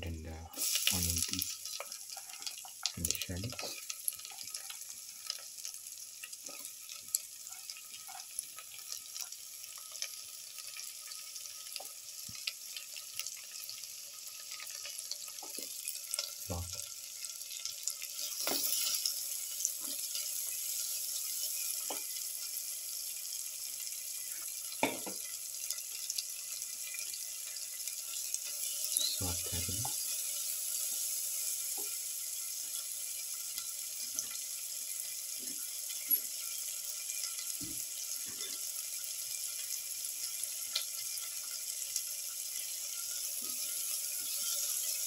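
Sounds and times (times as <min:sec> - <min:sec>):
onions sizzling in butter: 0:00.2 - 0:45.0.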